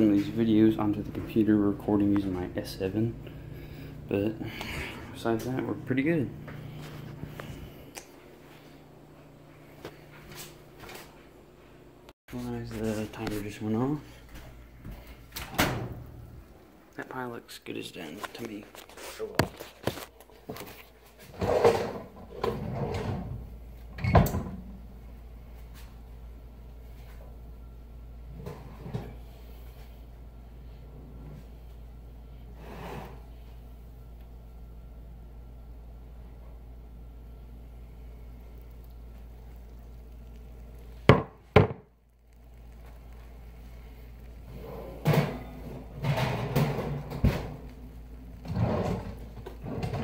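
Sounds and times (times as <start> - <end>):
low steady hum: 0.0 - 21.2, 22.0 - 50.0.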